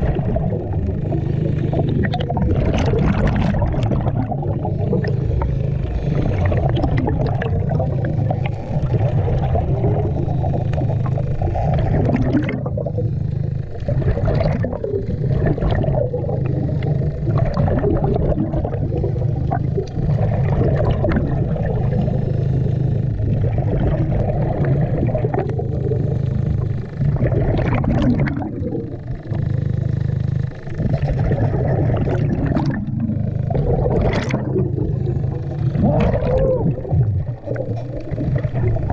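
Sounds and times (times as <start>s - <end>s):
diver's exhaled bubbles gurgling: 0.0s - 38.9s
steady low hum: 0.0s - 38.9s.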